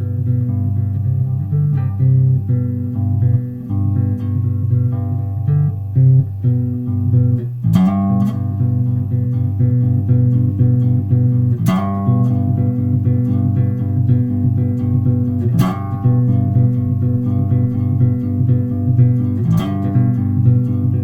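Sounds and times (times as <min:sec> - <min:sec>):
electric bass plucked notes: 0:00.0 - 0:21.0.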